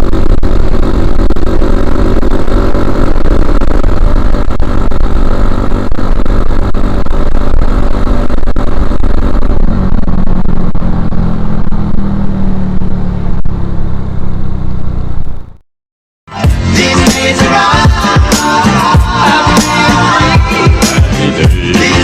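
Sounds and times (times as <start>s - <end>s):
motorcycle engine running: 0.0s - 15.6s, 16.3s - 22.0s.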